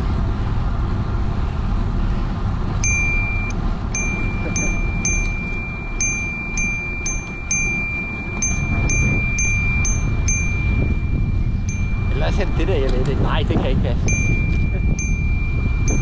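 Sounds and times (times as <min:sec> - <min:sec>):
wind and tyres rumbling: 0:00.0 - 0:16.0
thin high whine: 0:02.7 - 0:16.0
metallic tings from bicycle: 0:02.8 - 0:16.0.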